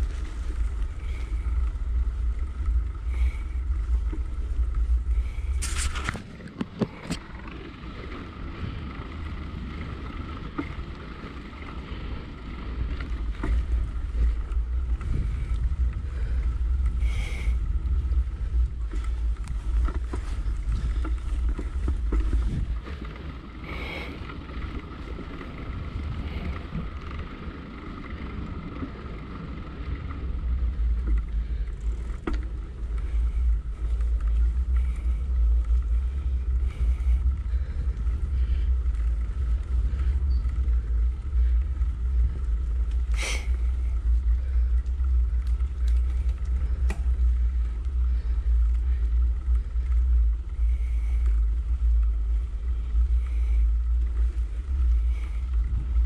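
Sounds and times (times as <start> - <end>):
wind and trail rumble on microphone: 0.0 - 56.0.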